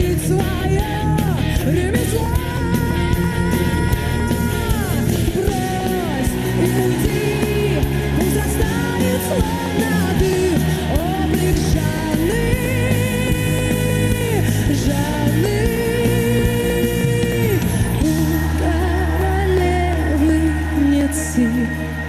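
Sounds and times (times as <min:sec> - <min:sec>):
song with sung vocals: 0:00.0 - 0:22.0.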